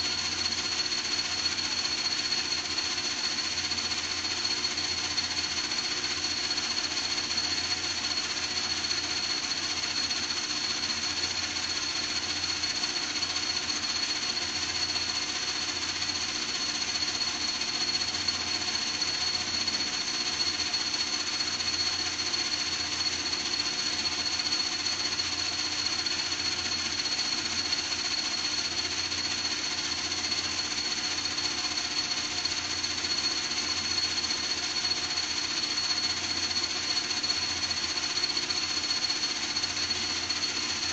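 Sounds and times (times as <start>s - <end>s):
high-pitched machine whine: 0.0s - 40.9s
rapid mechanical rattle: 0.0s - 40.9s.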